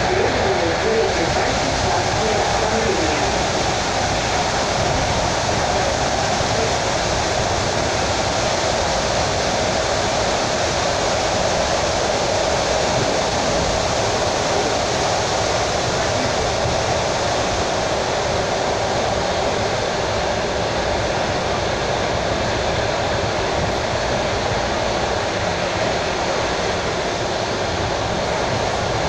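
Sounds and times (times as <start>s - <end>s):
train rushing wheels on rail: 0.0s - 29.0s.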